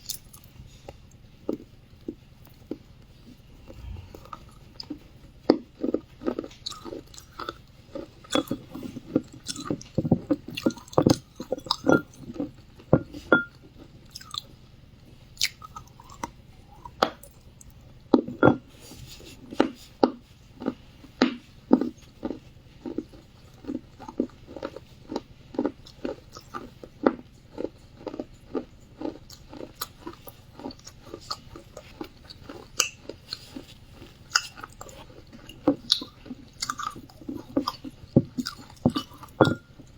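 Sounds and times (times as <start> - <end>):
moist crunchy chewing: 0.0 - 39.9.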